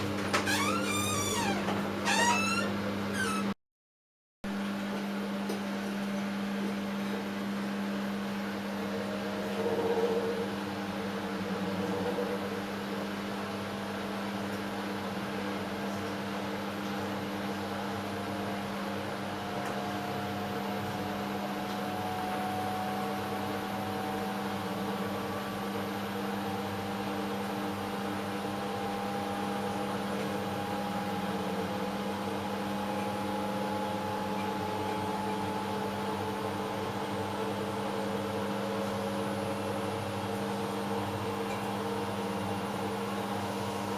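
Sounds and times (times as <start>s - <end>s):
washing machine motor hum: 0.0s - 3.6s, 4.5s - 43.9s.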